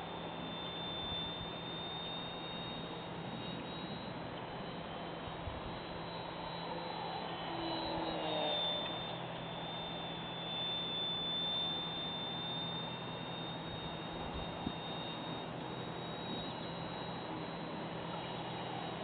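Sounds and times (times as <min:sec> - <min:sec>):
model airplane motor whine: 0:00.0 - 0:19.0.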